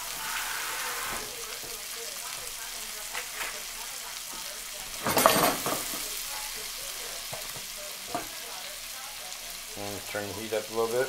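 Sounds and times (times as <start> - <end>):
food sizzling in a skillet: 0.0 - 11.0
food stirred in a pan: 0.0 - 11.0.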